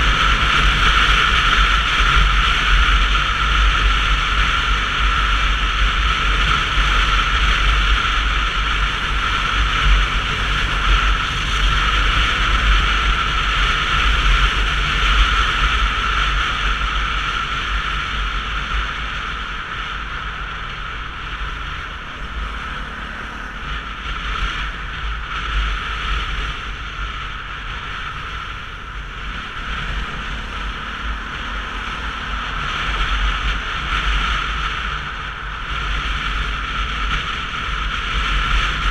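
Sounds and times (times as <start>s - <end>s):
motorcycle road noise: 0.0s - 38.9s.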